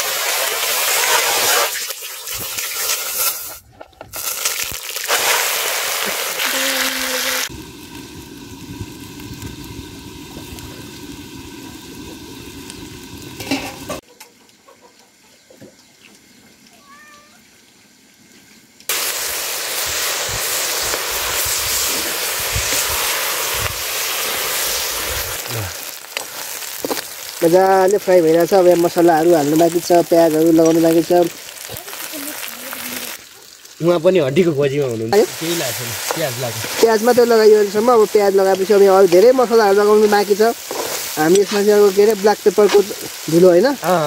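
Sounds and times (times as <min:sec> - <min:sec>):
chicken frying in hot oil: 0:00.0 - 0:03.6, 0:04.2 - 0:14.1, 0:18.9 - 0:44.0.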